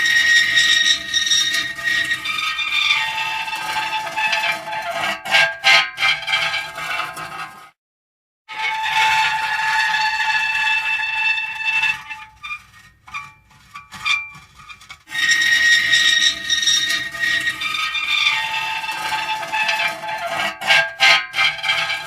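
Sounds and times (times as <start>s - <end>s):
metal creaking and squealing: 0.0s - 7.7s, 8.5s - 22.0s.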